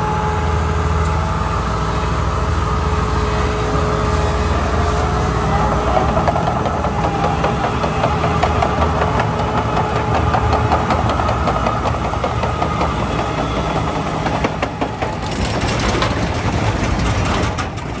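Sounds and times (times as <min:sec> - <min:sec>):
diesel engine running: 0:00.0 - 0:18.0
rapid mechanical ticking and rattle: 0:00.0 - 0:18.0.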